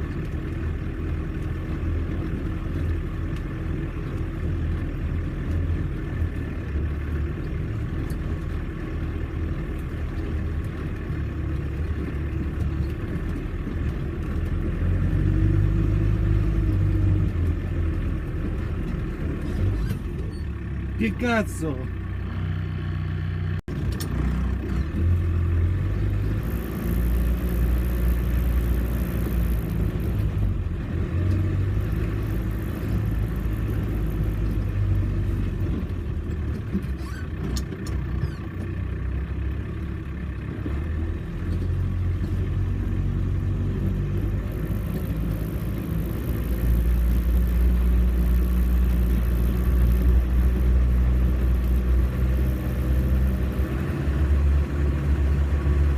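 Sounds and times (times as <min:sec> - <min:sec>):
off-road vehicle engine rumbling: 0:00.0 - 0:55.9.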